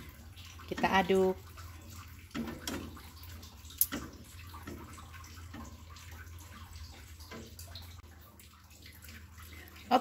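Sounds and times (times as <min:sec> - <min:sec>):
pudding sloshing in a metal pot: 0:00.0 - 0:10.0.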